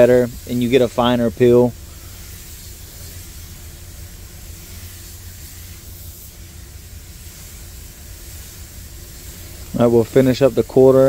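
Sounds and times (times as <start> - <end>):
low steady hum: 0.0 - 11.0
spray gun hissing air: 0.0 - 11.0.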